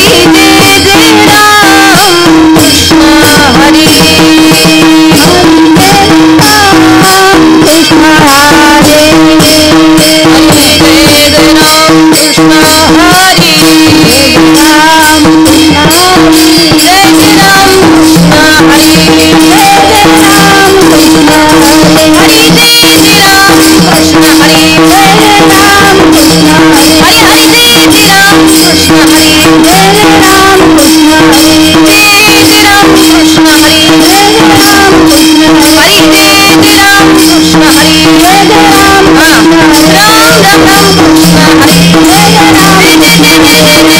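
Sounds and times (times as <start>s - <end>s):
drum beat: 0.0s - 43.9s
jingling percussion: 0.0s - 43.9s
woman singing devotional song: 0.0s - 43.9s.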